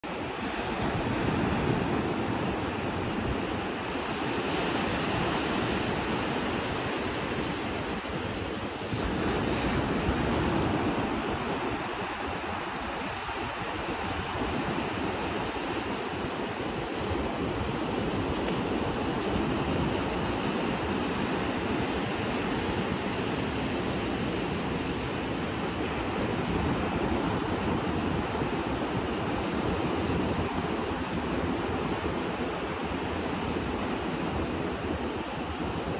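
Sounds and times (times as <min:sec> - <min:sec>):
ocean waves breaking: 0:00.0 - 0:35.9.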